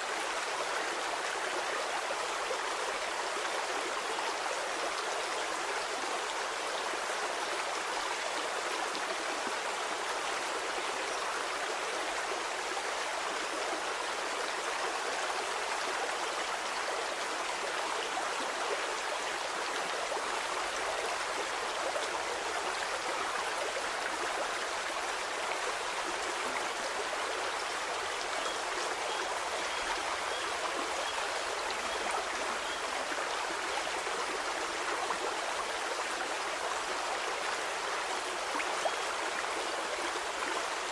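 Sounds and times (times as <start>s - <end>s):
water flowing over rocks: 0.0s - 40.9s.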